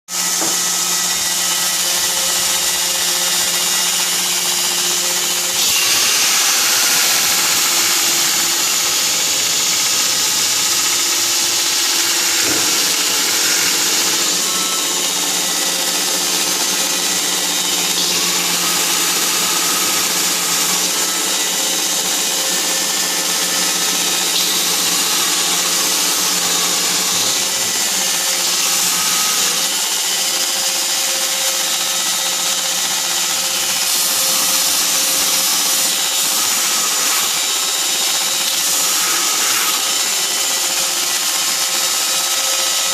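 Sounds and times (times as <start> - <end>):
belt grinder motor hum: 0.1 - 42.9.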